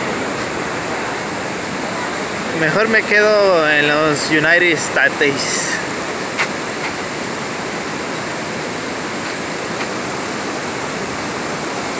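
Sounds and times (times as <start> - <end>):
roar of rushing water: 0.0 - 11.9.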